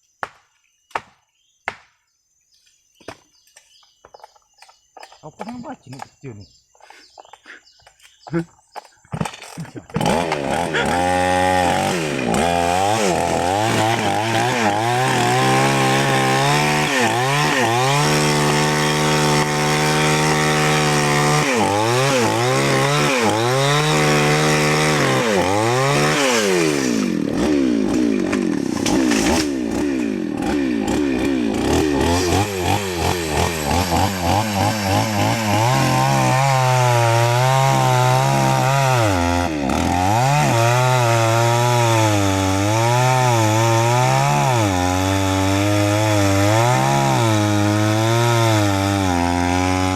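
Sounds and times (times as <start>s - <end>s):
chainsaw cutting into trunk: 6.8s - 49.9s
chainsaw revving: 6.8s - 49.9s.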